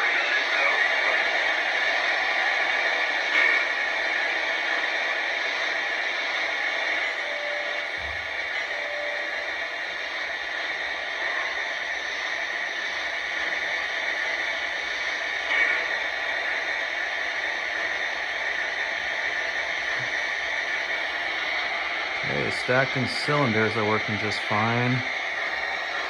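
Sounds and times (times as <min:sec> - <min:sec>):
steam locomotive hissing: 0:00.5 - 0:26.0.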